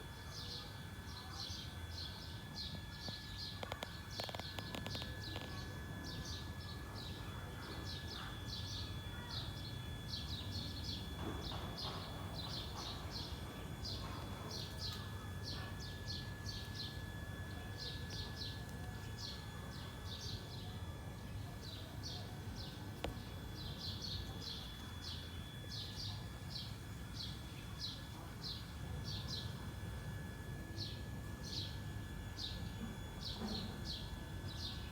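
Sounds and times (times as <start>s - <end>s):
small birds chirping: 0.3s - 34.9s.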